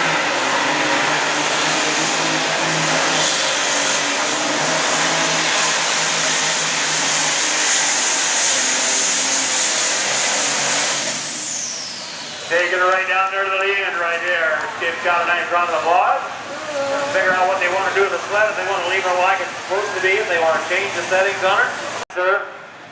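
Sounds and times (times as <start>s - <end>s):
tractor diesel engine at full throttle: 0.0s - 22.0s.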